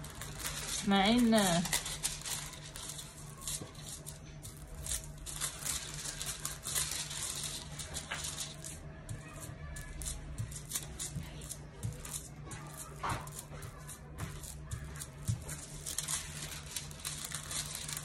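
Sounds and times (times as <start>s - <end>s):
foil crinkling and rustling: 0.0s - 18.0s.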